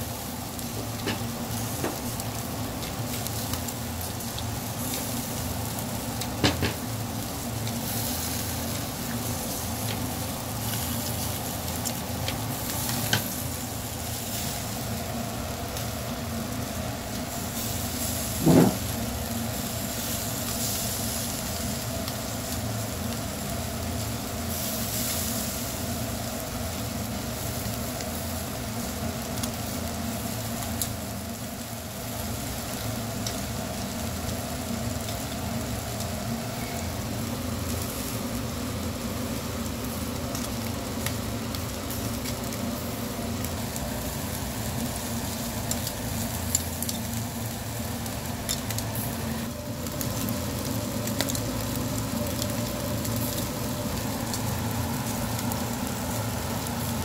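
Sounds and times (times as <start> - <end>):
fish sizzling on a grill: 0.0 - 57.0.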